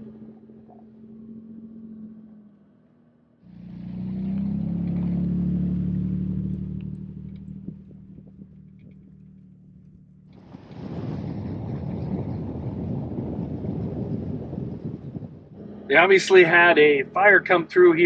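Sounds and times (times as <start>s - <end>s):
truck engine droning: 0.0s - 11.8s, 12.7s - 18.0s.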